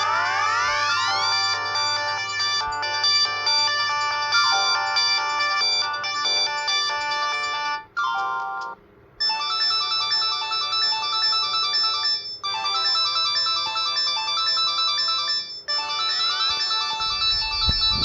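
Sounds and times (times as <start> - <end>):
mobile phone ringtones: 0.0 - 18.0.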